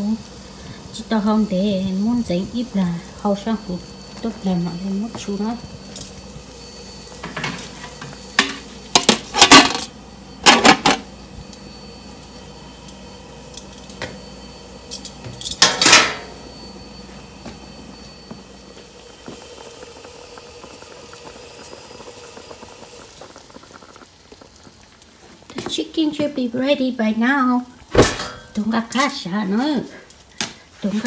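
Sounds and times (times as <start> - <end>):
pot boiling with low bubbling: 0.0 - 31.0.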